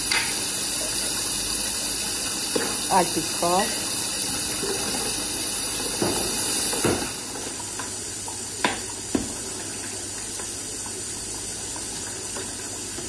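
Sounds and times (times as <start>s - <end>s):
meat sizzling while stirred: 0.0s - 13.0s
onion sizzling in oil: 0.0s - 13.0s.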